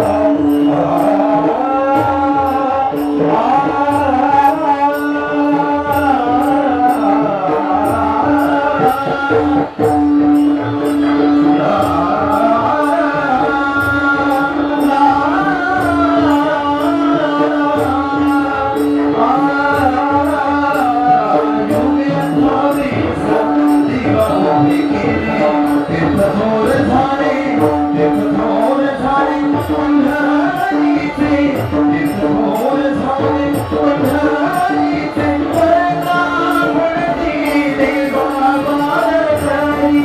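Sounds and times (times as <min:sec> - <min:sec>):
drum strokes: 0:00.0 - 0:40.0
person singing devotional melody: 0:00.0 - 0:40.0.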